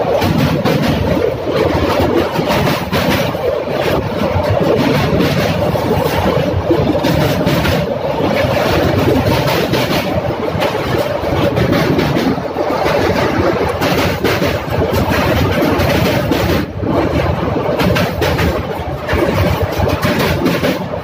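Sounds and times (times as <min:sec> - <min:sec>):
train rumbling on bridge: 0:00.0 - 0:21.0.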